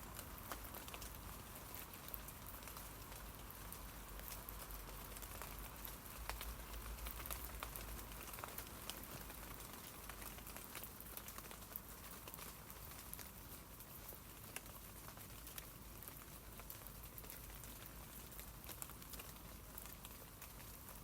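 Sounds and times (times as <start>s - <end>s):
rain pattering on leaves: 0.0s - 21.0s.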